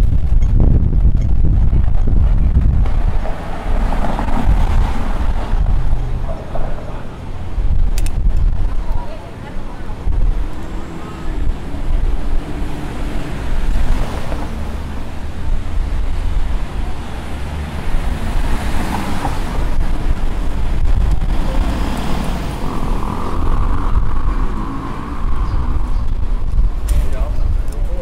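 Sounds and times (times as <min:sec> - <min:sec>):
traffic noise: 0:00.0 - 0:28.0
wind buffeting microphone: 0:00.0 - 0:28.0.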